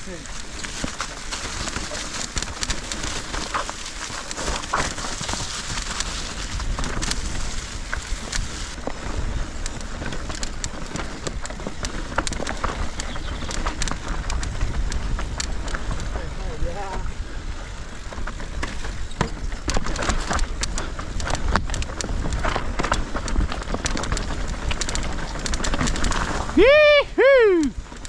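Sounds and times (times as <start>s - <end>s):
bike clicks and rattles: 0.0s - 26.6s, 27.7s - 28.0s
tyres crunching over stones: 0.0s - 26.6s
wind rumble on microphone: 0.0s - 28.0s.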